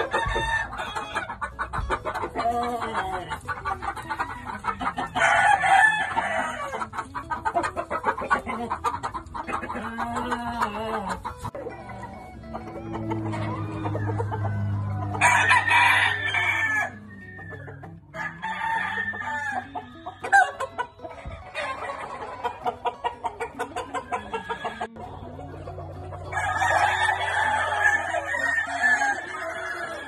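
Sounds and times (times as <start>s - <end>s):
roosters crowing: 0.0s - 30.0s.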